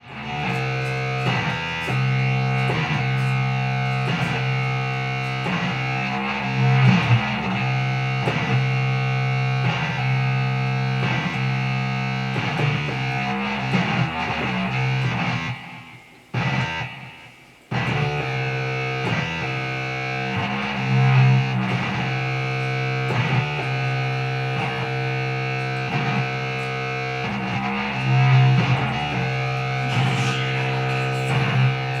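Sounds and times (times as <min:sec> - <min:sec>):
distorted electric guitar chords: 0:00.0 - 0:32.0.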